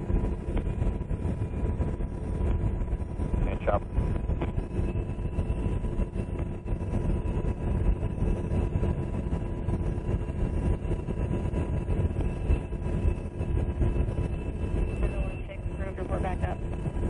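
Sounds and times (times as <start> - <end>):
helicopter engines and rotors rumbling: 0.0 - 17.0
thin steady whines: 0.0 - 17.0.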